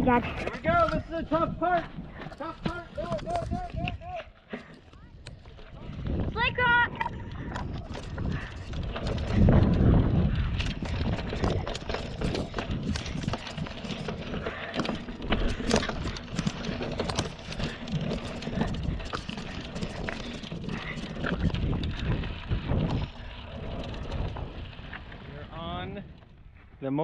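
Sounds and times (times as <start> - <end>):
bike rattling over bumps: 0.0 - 27.0
tyre and wind rumble: 0.0 - 27.0.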